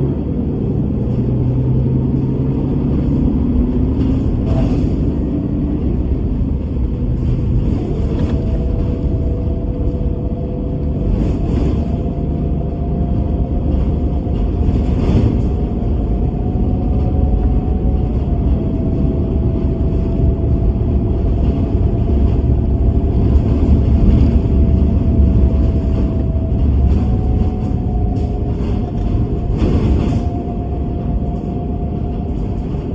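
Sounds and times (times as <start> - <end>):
bus engine and road rumble: 0.0 - 32.9.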